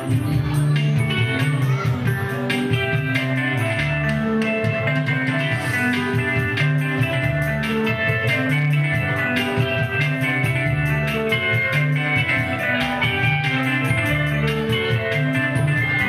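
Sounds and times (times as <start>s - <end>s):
bass line: 0.0s - 16.0s
guitar lines: 0.0s - 16.0s
steady drum beat: 0.0s - 16.0s.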